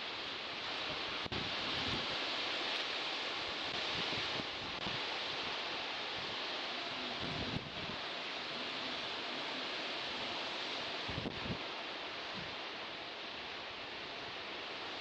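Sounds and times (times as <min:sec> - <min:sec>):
sea surf washing: 0:00.0 - 0:15.0.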